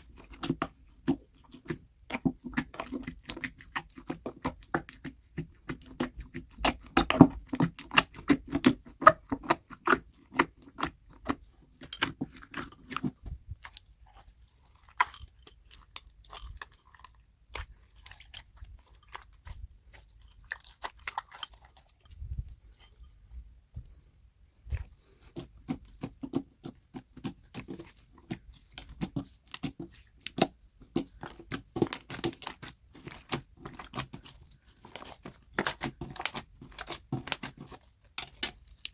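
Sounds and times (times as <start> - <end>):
slime squishing: 0.0 - 38.9.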